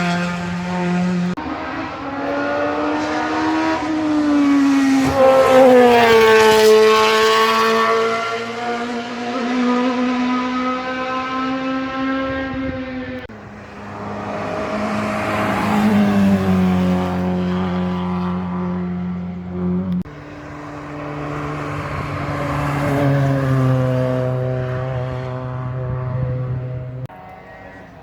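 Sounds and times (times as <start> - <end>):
racing car engine accelerating: 0.0 - 28.0.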